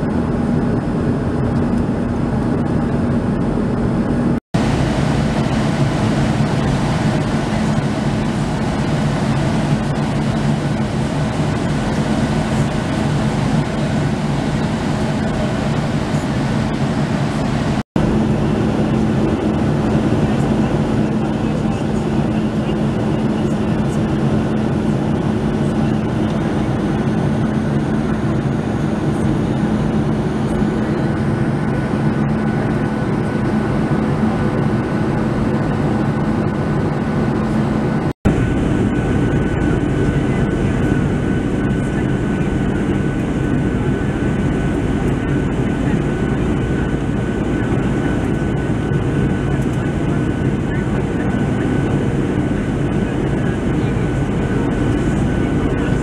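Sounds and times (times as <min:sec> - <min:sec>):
jet cabin engine rush: 0:00.0 - 0:56.0.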